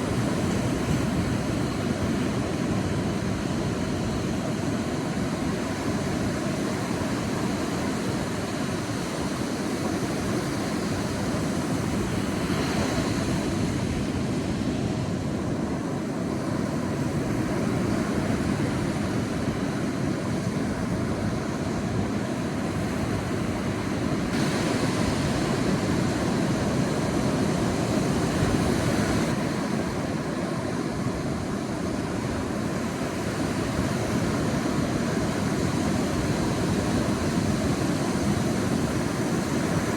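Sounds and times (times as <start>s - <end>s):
sea waves washing on beach: 0.0s - 39.9s.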